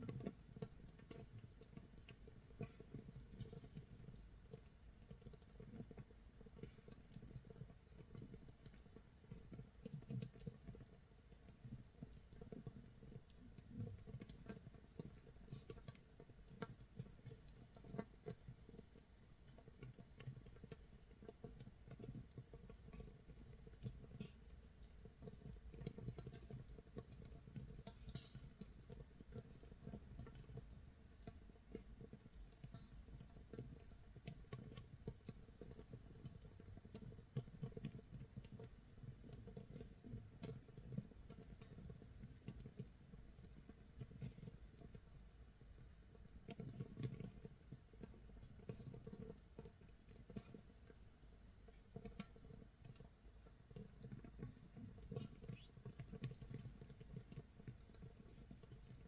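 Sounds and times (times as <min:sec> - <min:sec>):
fermenting brew crackling and popping: 0:00.0 - 0:59.0.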